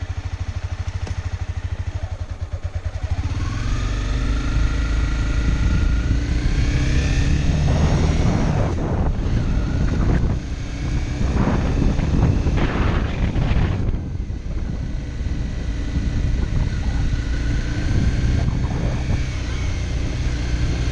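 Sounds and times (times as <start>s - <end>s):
motorcycle engine idling and accelerating: 0.0s - 20.9s
wind buffeting microphone: 3.2s - 20.9s.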